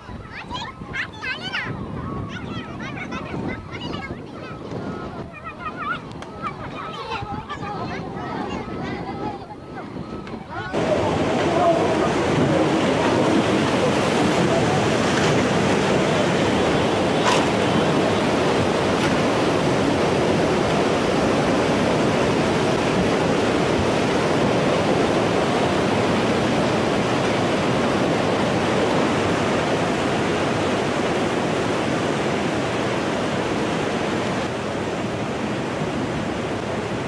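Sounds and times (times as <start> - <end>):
water rushing and churning: 0.0 - 37.0.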